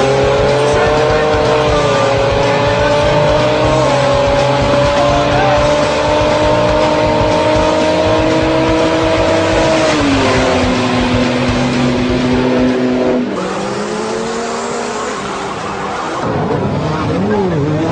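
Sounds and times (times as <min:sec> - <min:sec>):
loud rushing noise: 0:00.0 - 0:17.3
car engine at high revs: 0:00.0 - 0:17.9.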